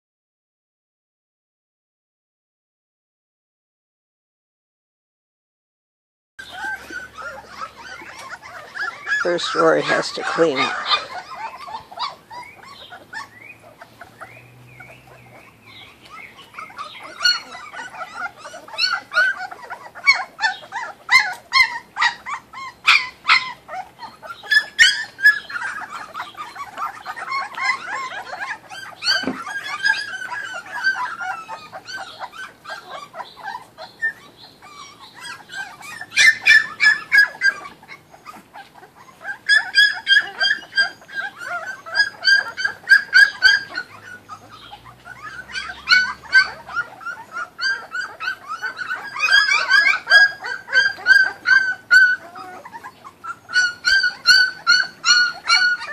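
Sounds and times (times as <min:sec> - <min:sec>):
puppies whimpering and yelping: 0:06.4 - 0:55.9.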